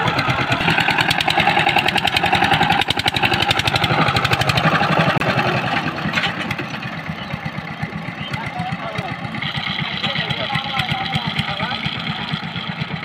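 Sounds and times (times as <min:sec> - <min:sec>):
diesel tiller engine chugging: 0:00.0 - 0:13.0.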